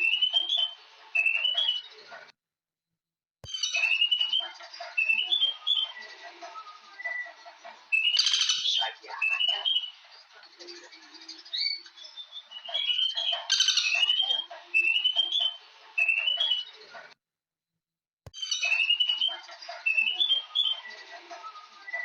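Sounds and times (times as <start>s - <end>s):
birds chirping: 0.0s - 2.3s, 3.4s - 17.2s, 18.3s - 22.0s.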